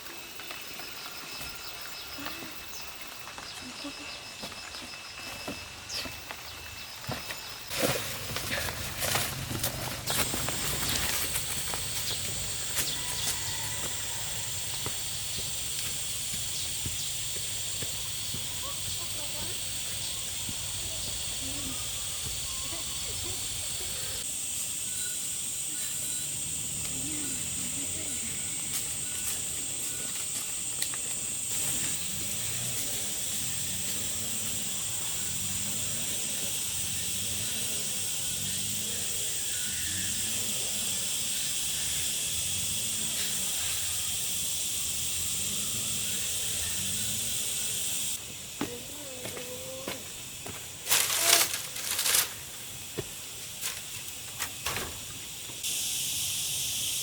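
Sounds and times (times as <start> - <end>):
high-pitched hiss with whine: 9.3 - 57.0.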